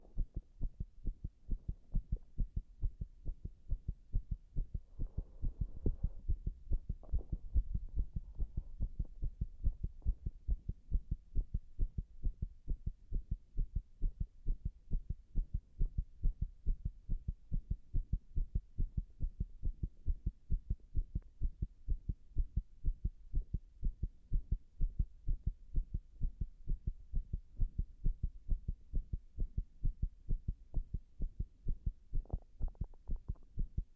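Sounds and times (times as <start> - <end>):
heartbeat thumps: 0.0 - 33.9.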